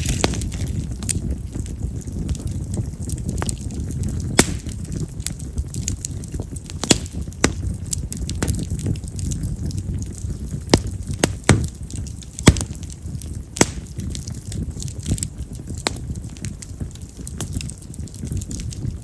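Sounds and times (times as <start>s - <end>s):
firewood crackling and popping: 0.0s - 19.0s
flames rushing: 0.0s - 19.0s.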